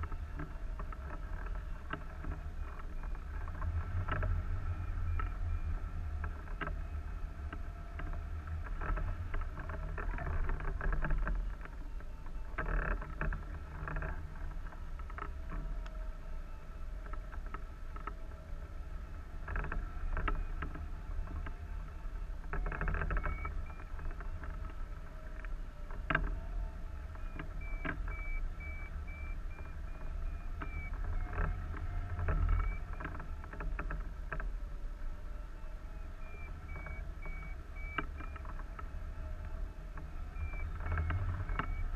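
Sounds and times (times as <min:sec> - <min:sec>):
sail rattling and fluttering: 0:00.0 - 0:41.9.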